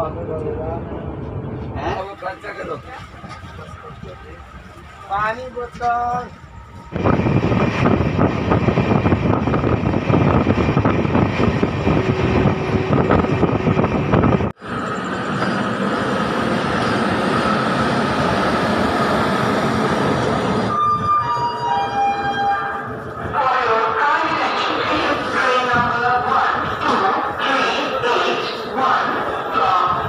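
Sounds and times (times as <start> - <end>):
train rolling slowly: 0.2 - 30.0.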